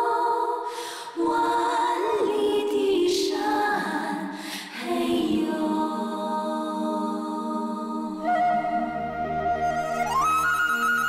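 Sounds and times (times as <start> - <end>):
choir-like vocals: 0.0 - 10.6.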